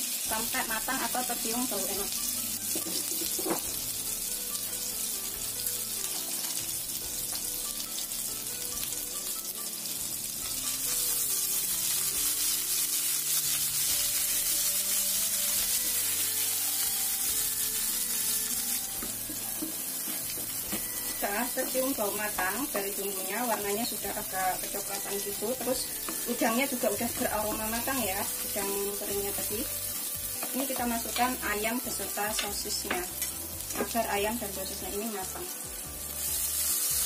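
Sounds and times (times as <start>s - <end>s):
spice paste sizzling in oil: 0.0s - 37.0s.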